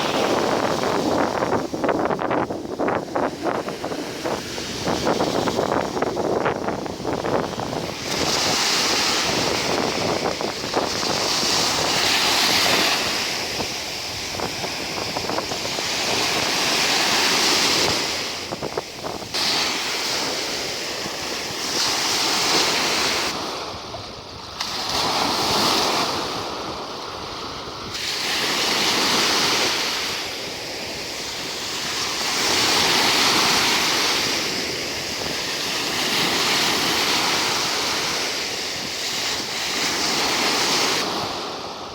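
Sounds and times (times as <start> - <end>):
waves breaking on shore: 0.0 - 41.9
wind on microphone: 0.0 - 41.9.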